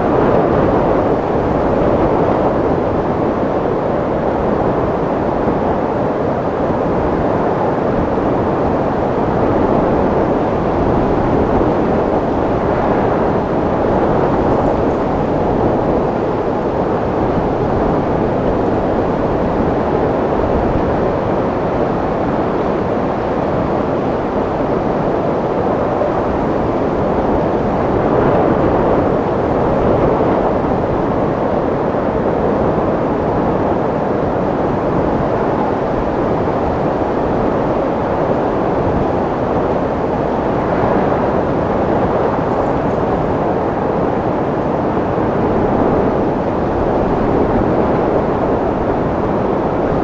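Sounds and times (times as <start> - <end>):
dense rush of wind: 0.0 - 50.0.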